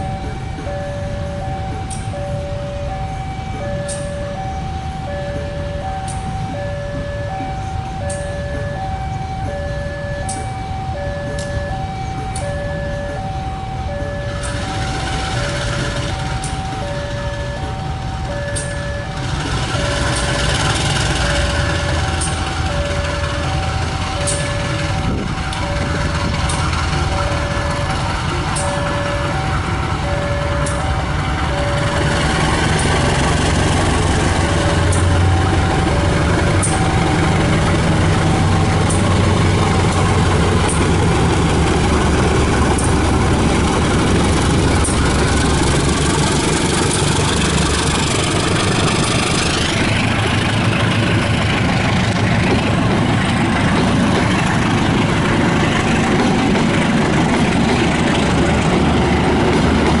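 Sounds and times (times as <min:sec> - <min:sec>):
coaches rattling on rails: 0:00.0 - 1:00.0
locomotive engine drone: 0:00.0 - 1:00.0.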